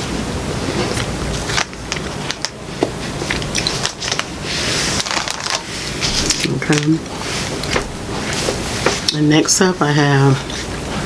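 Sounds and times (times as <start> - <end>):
chewing ice cream: 0.2 - 9.2.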